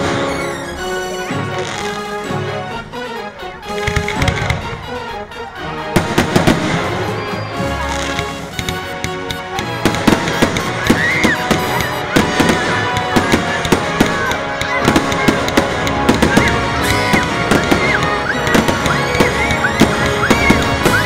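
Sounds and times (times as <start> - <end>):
fireworks bangs and crackles: 0.0 - 2.4, 3.6 - 21.0
music playing: 0.0 - 21.0.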